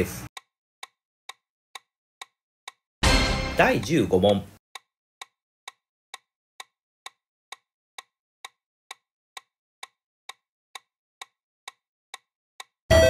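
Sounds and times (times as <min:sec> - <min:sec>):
clock-like timer ticks: 0:00.3 - 0:13.0.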